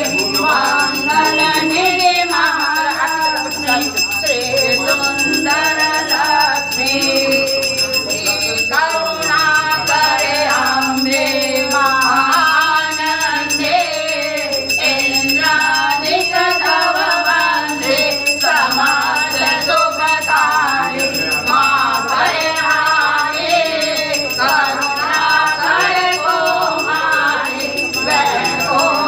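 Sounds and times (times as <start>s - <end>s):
metallic jingling and ringing: 0.0s - 29.0s
voices singing a hymn: 0.0s - 29.0s.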